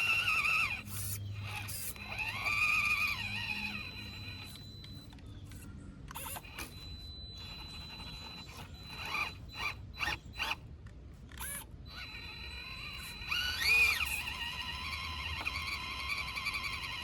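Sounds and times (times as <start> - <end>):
small electric motor whining: 0.0 - 17.0
toy truck clicking and scraping on rock: 0.0 - 17.0.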